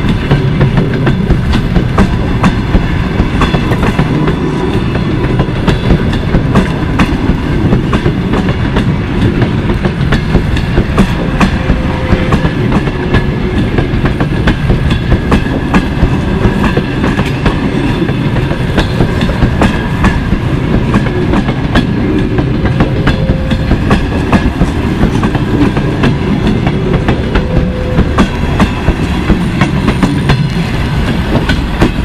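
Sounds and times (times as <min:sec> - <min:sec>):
train wheels rumbling on rails: 0:00.0 - 0:32.0
wheels clicking over rail joints: 0:00.0 - 0:32.0.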